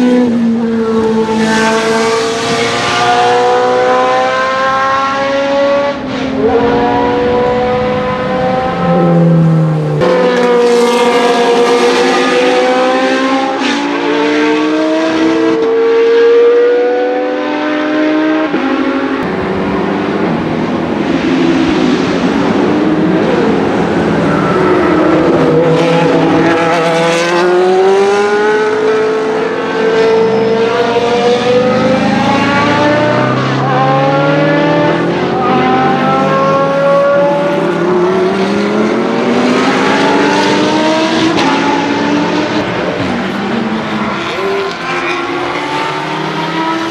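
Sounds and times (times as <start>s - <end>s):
racing car engines revving: 0.0s - 46.9s.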